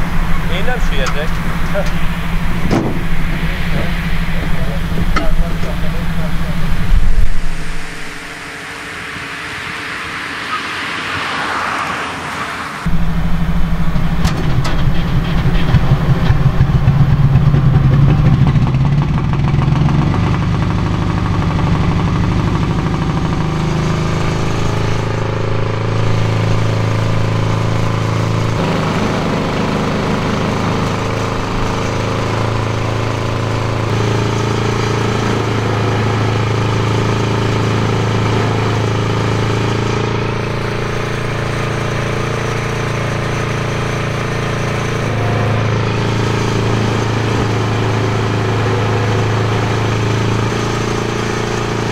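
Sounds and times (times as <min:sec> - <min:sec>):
diesel bulldozer engine running: 0:00.0 - 0:51.9.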